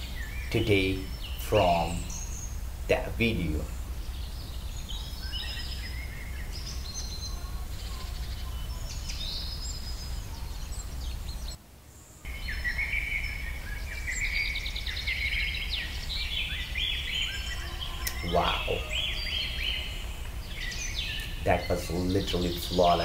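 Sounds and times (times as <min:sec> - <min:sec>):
low steady hum: 0:00.0 - 0:23.0
small birds chirping and trilling: 0:00.0 - 0:23.0.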